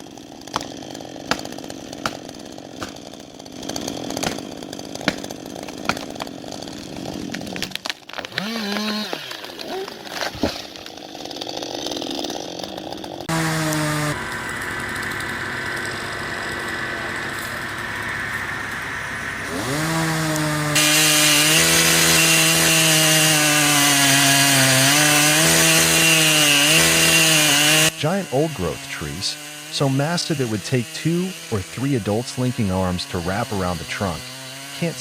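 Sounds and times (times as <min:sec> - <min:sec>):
chainsaw cutting into wood: 0:00.0 - 0:35.0
chainsaw engine revving: 0:00.0 - 0:35.0.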